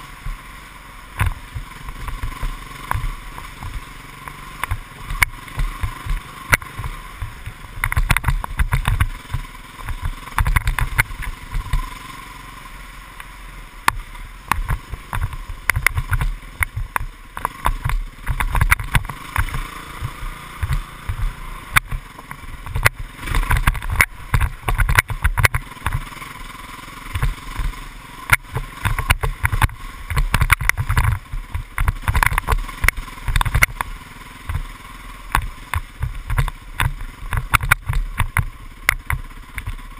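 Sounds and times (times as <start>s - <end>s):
dirt bike engine running: 0.0s - 39.9s
knocks and thumps from bumps: 1.1s - 12.0s, 13.8s - 39.9s.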